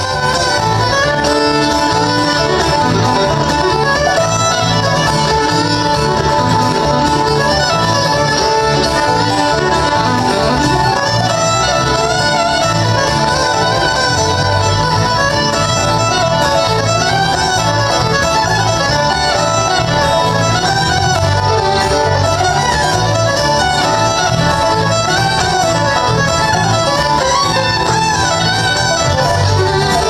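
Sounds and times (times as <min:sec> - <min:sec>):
fiddle melody: 0:00.0 - 0:30.0
guitar: 0:00.0 - 0:30.0
mandolin: 0:00.0 - 0:30.0.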